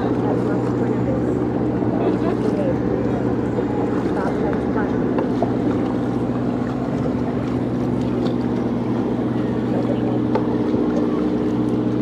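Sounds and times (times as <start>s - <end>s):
low mechanical hum: 0.0s - 12.0s
wash of noise: 0.0s - 12.0s.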